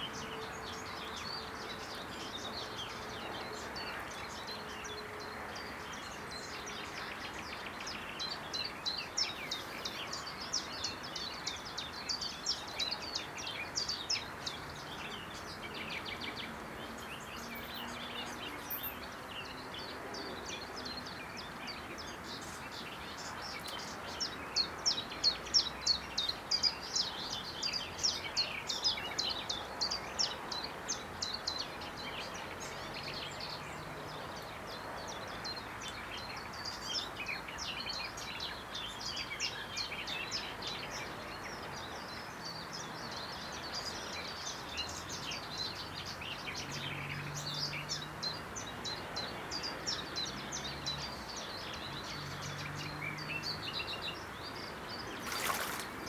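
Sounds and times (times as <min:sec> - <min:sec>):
small birds chirping: 0:00.0 - 0:56.0
steady outdoor hiss: 0:00.0 - 0:56.0.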